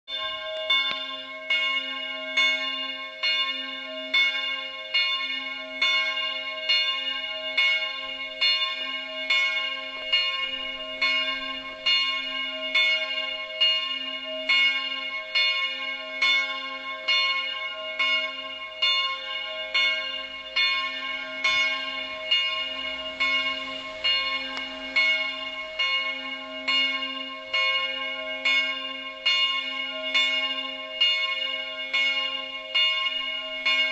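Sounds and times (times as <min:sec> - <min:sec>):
swinging church bell ringing: 0:00.1 - 0:33.9.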